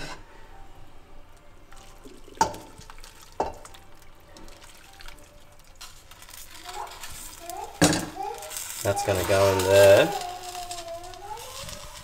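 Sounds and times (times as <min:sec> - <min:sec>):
sauce pouring into a pot: 0:01.7 - 0:12.0.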